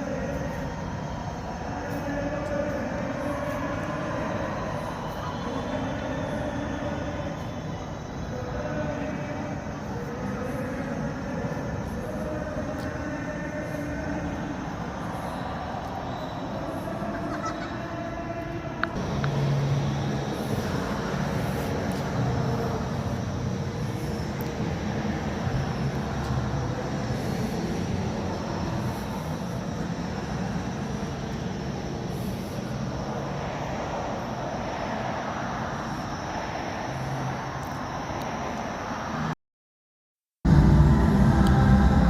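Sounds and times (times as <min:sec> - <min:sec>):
distant party din: 0:00.0 - 0:38.3.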